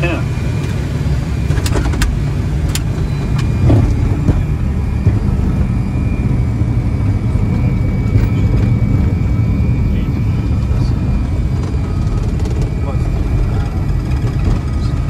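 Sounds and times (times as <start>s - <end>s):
wheels and engines rumbling: 0.0s - 15.0s.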